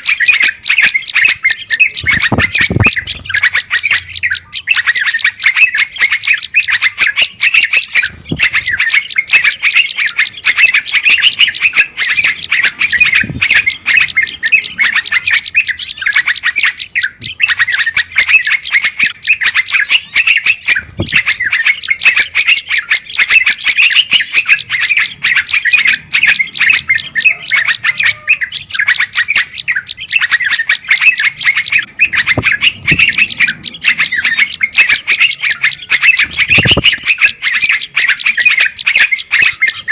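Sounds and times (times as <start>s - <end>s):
songbirds chattering and scolding: 0.0s - 39.9s.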